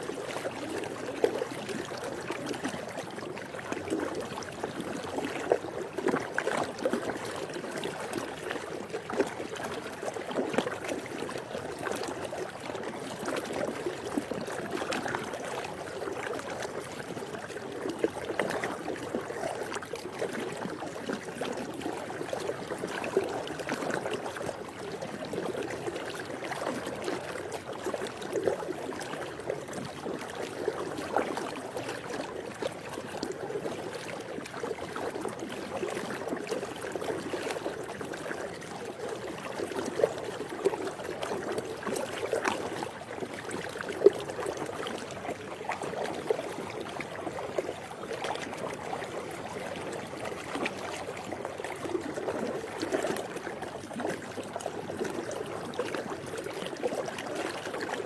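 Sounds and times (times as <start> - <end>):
pool water moving: 0.0 - 58.0
small water splashes: 0.0 - 58.0.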